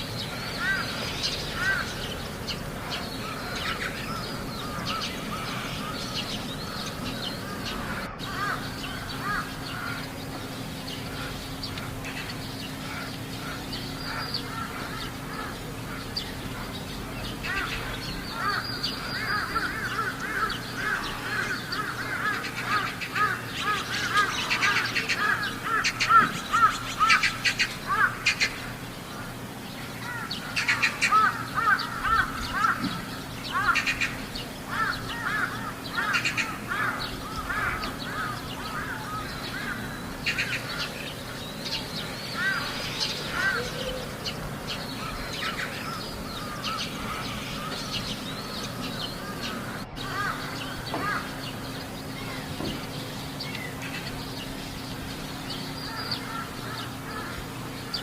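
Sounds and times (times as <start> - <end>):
crows calling: 0.0 - 58.0.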